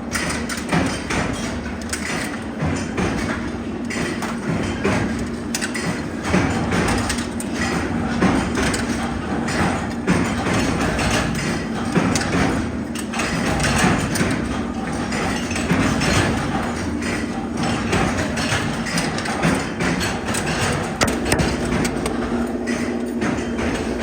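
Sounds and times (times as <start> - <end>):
factory machinery humming: 0.0 - 24.0
metal knocks and clicks: 0.1 - 24.0.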